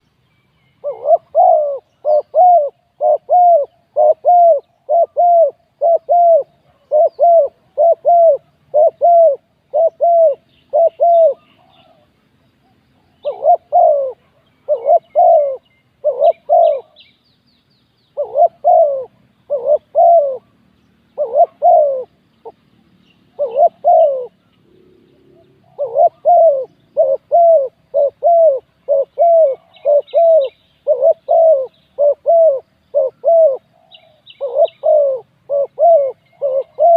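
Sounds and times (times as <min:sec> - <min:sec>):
small birds chirping: 0:00.0 - 0:36.9
dove cooing: 0:00.8 - 0:17.0, 0:18.2 - 0:22.7, 0:23.3 - 0:36.9.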